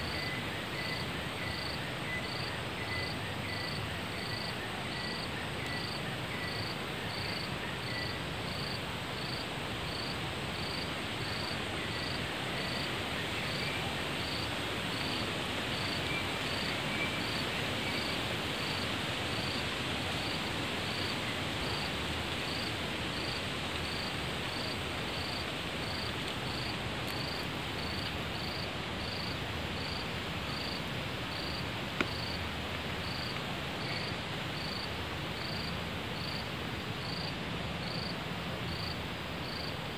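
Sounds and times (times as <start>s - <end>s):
insects chirping: 0.0s - 32.4s, 33.0s - 36.4s, 38.7s - 39.7s
constant insect hiss: 0.0s - 39.9s.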